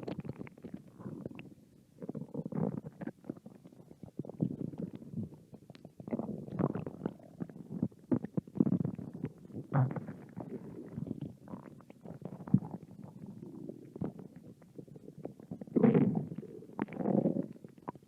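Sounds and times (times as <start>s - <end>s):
stomach growling and gurgling: 0.0s - 18.0s.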